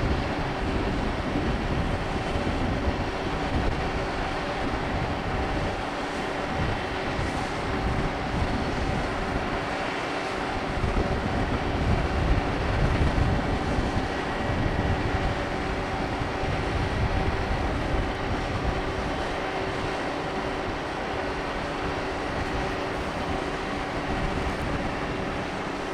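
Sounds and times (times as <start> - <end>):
ship machinery drone: 0.0 - 25.9
wind buffeting microphone: 0.0 - 25.9.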